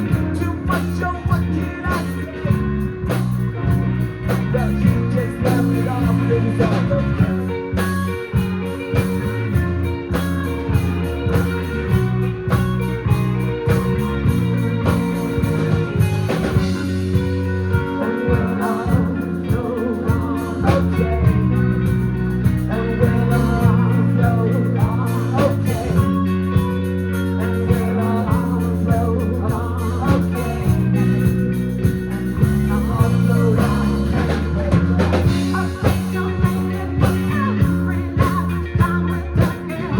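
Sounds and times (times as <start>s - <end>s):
live rock blues band playing: 0.0s - 39.9s.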